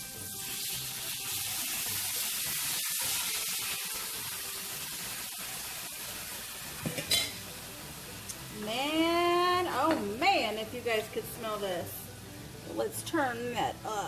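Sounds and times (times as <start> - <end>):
sauce sizzling in skillet: 0.0 - 13.4.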